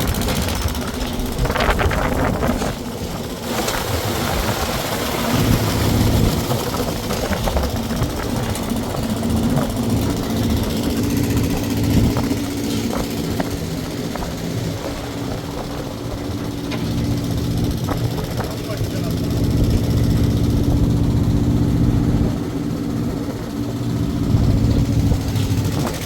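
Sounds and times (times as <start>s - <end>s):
construction machine engine droning: 0.0s - 26.0s
rattling and clatter: 0.0s - 26.0s.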